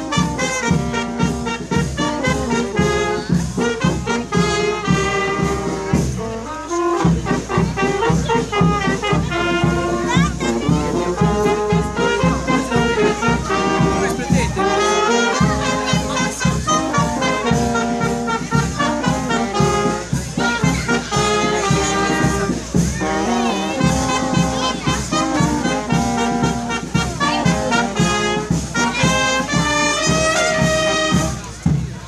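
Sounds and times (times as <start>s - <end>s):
marching brass band playing: 0.0s - 32.0s.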